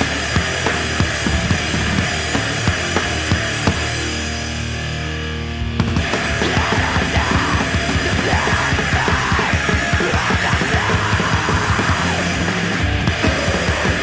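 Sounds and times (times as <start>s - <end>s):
fast pounding drums: 0.0s - 4.3s, 5.6s - 14.0s
heavy rock with distorted guitars: 0.0s - 14.0s.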